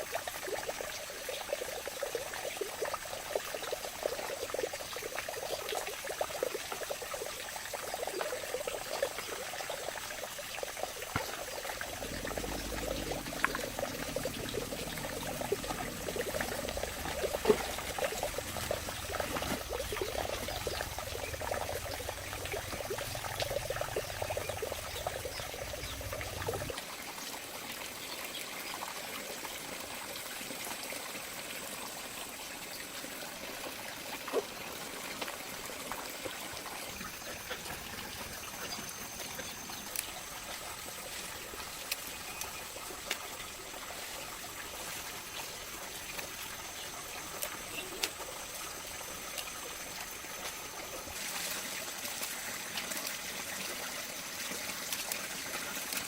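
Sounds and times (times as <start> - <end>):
water trickling and pouring: 0.0 - 56.0.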